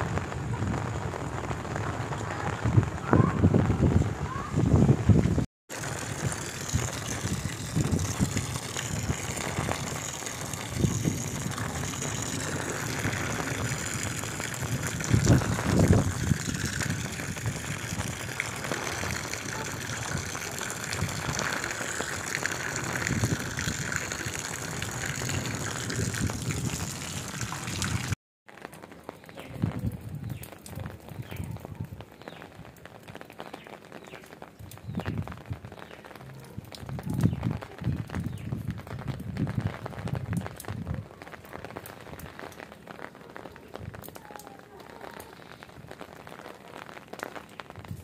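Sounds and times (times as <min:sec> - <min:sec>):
heavy rain on concrete: 0:00.0 - 0:48.0
rain splashing into puddles: 0:00.0 - 0:48.0.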